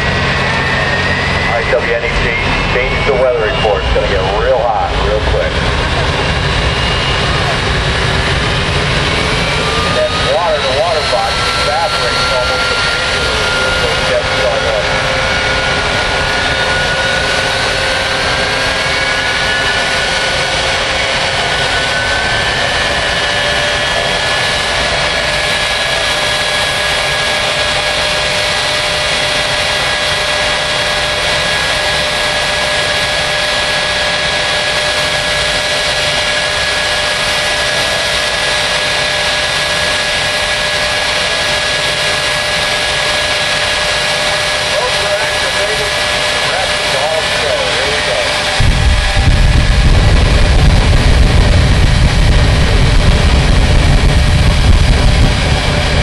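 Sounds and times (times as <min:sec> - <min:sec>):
jet engine roaring and whining: 0:00.0 - 0:56.0.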